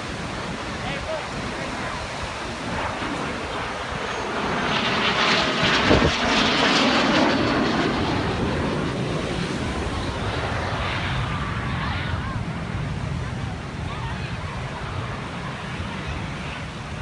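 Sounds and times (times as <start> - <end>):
jet engine roar flying overhead: 0.0 - 17.0.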